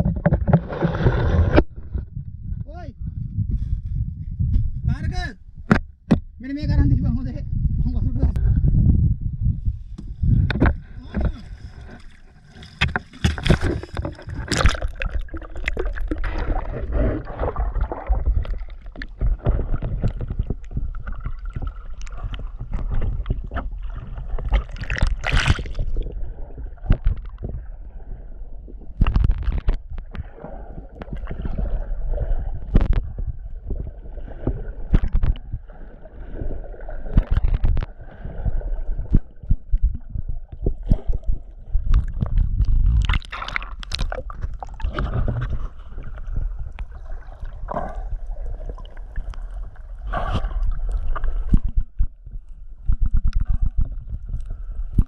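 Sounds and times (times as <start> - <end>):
water gurgling and sloshing: 0.0 - 4.9, 6.8 - 55.0
low underwater rumble: 0.0 - 55.0.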